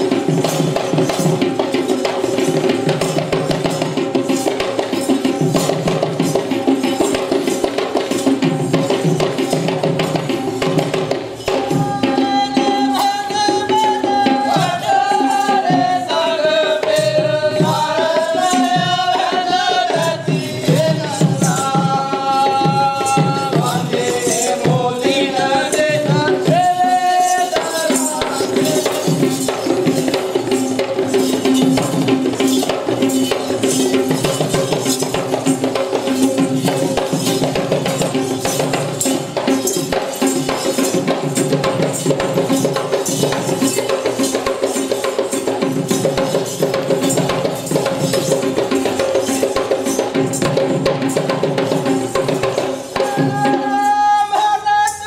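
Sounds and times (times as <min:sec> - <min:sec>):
hand drums in fast rhythm: 0:00.0 - 0:55.0.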